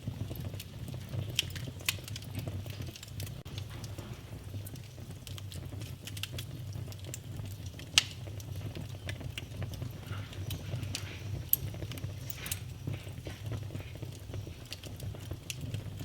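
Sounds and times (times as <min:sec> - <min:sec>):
wood fire crackling: 0:00.0 - 0:16.0
sharp fire snaps: 0:00.2 - 0:16.0.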